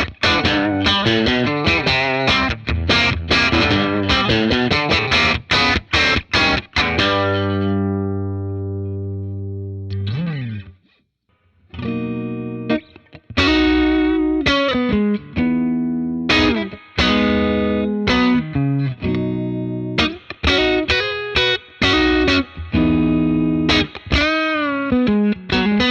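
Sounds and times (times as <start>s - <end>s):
electric guitar playing: 0.0s - 10.8s, 11.7s - 25.9s.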